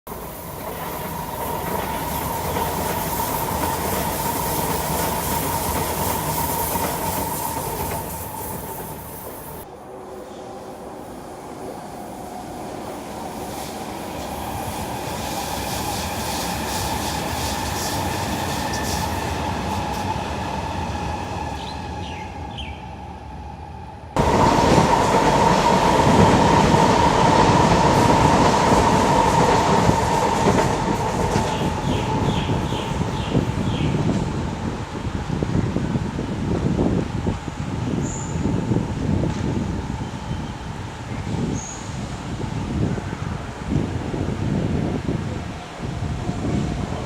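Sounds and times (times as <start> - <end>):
train wheels rolling: 0.1 - 23.1, 24.2 - 47.0
electric train passing: 0.1 - 47.0
train whine: 0.1 - 47.0.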